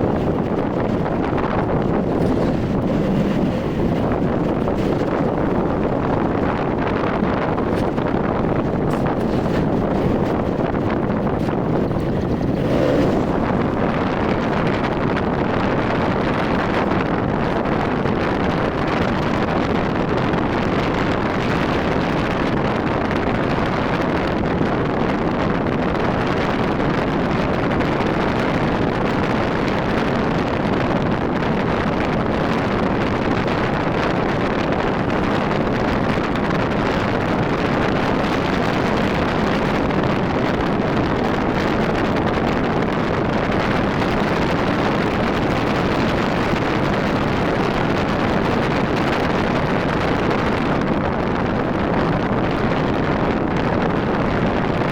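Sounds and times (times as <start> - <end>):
motorcycle engine and road noise: 0.0 - 54.9
wind rushing over microphone: 0.0 - 54.9.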